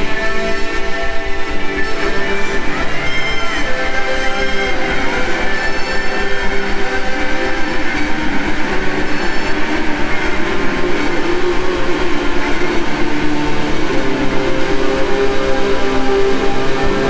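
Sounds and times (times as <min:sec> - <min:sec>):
ambient drone music: 0:00.0 - 0:17.0
low pulsing rhythm: 0:00.0 - 0:17.0.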